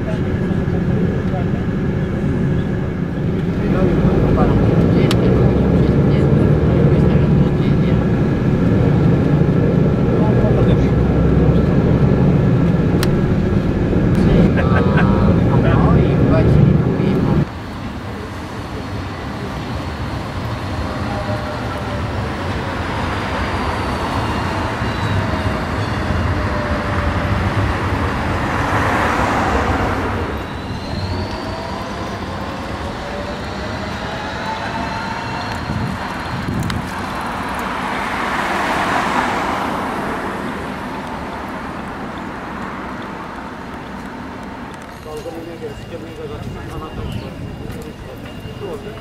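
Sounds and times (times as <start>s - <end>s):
road traffic rumble: 0.0s - 49.0s
vehicles passing by: 0.0s - 49.0s.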